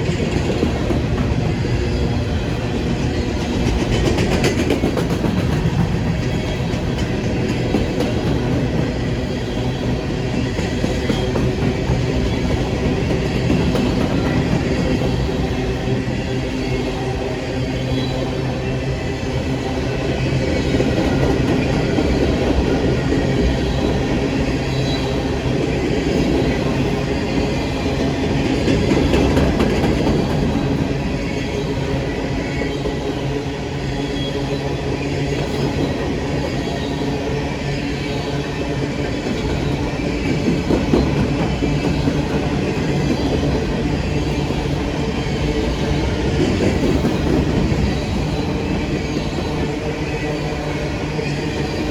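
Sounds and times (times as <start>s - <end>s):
rumble of railcars: 0.0s - 51.9s.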